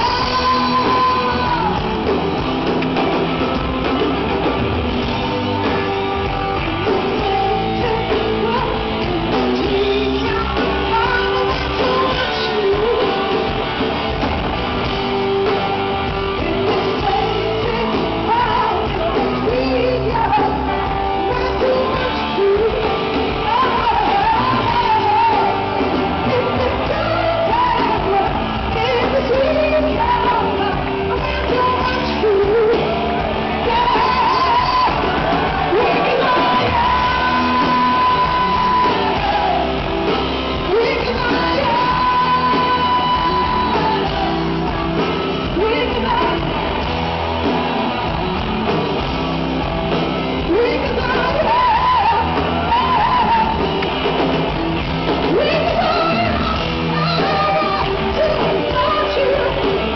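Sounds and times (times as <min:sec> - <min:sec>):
woman singing: 0:00.0 - 0:04.0, 0:04.9 - 0:14.2, 0:15.4 - 0:46.8, 0:50.4 - 0:54.1, 0:55.1 - 0:59.9
live rock band playing: 0:00.0 - 0:59.9.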